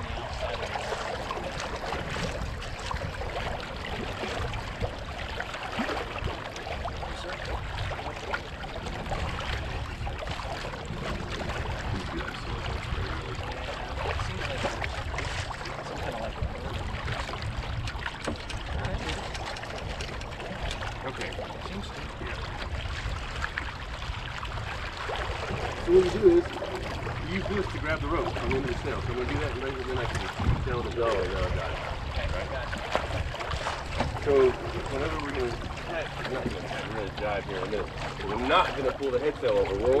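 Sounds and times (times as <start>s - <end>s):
water lapping against hull: 0.0s - 40.0s
wind rumbling on microphone: 0.0s - 40.0s.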